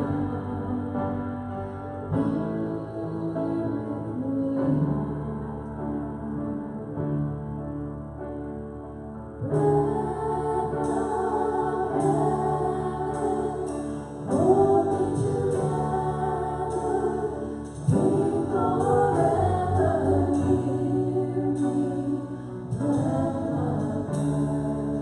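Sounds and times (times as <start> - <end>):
women singing into microphones: 0.0 - 1.4, 2.1 - 6.6, 9.4 - 25.0.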